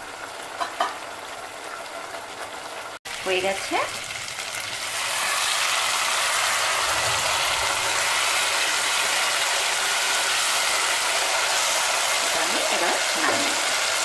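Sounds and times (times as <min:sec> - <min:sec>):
gravy sizzling and spattering: 0:00.0 - 0:14.0.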